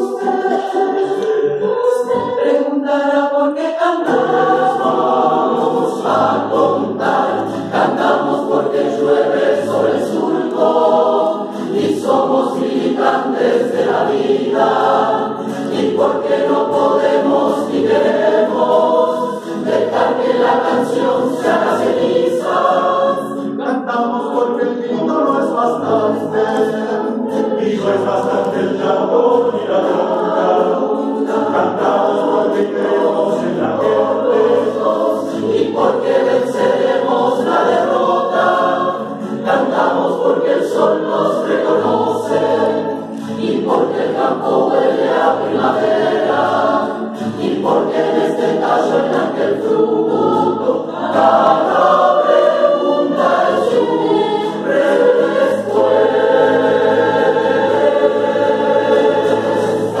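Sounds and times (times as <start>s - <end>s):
mixed choir singing: 0.0s - 60.0s.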